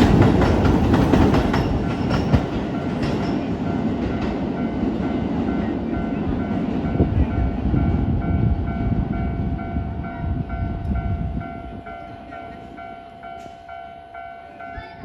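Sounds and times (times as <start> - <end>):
crossing warning bell ringing: 0.0 - 15.0
electric train rumbling: 0.0 - 15.0.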